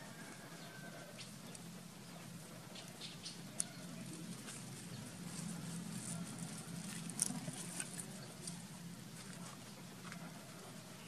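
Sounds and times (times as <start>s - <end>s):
faint low hum: 0.0s - 11.0s
leaves and stems rustling: 0.2s - 10.3s.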